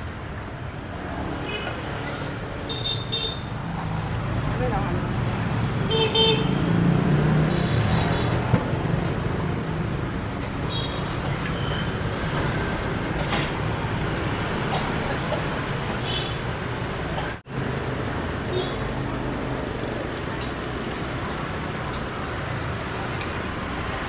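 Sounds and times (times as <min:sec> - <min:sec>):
street traffic hum: 0:00.0 - 0:24.0.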